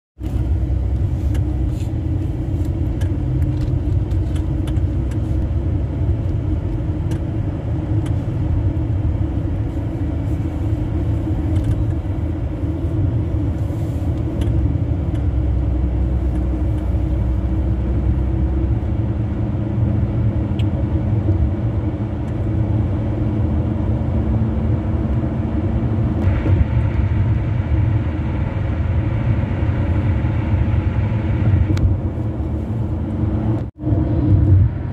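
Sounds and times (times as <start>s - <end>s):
tyre and road rumble: 0.2s - 34.9s.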